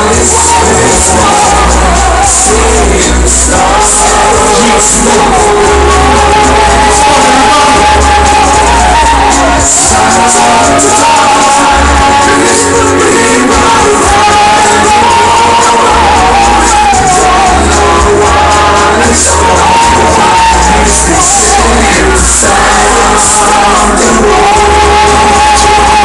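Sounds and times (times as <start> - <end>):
backing track through speakers: 0.0 - 26.0
heavy bass beat: 0.0 - 26.0
person rapping into a microphone: 0.0 - 26.0.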